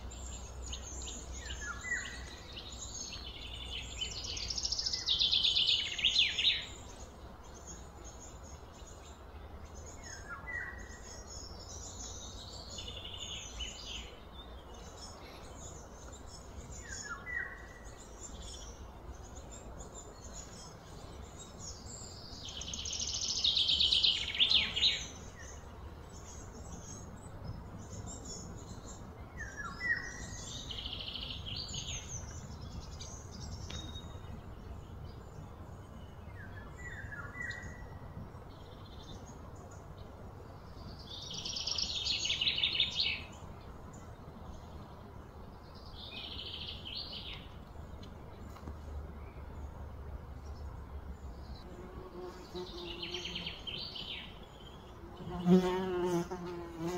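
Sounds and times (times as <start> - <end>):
birds chirping: 0.0 - 56.9
low steady background hum: 0.0 - 56.9.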